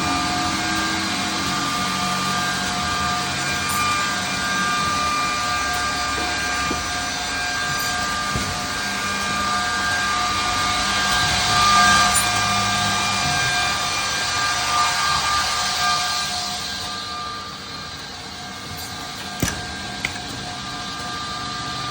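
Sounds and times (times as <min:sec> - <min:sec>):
machine motor whine: 0:00.0 - 0:21.9.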